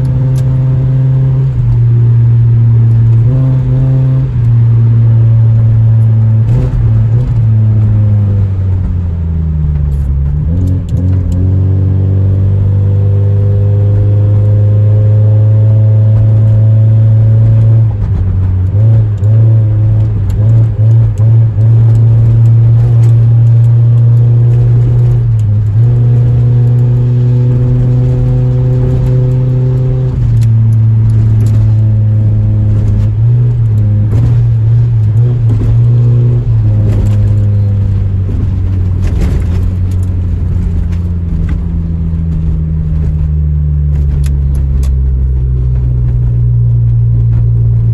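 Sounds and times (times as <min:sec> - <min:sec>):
car engine accelerating and shifting: 0:00.0 - 0:47.9.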